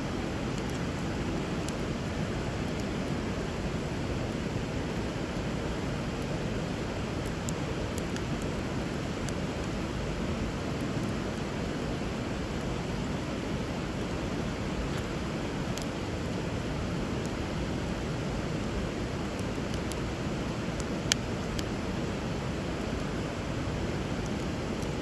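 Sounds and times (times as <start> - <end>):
river water flowing: 0.0 - 25.0
wood fire crackling: 0.0 - 25.0.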